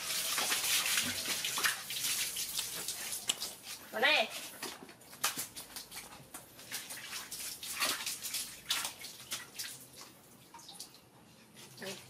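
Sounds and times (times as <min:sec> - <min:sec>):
hose water splashing into bucket: 0:00.0 - 0:11.0.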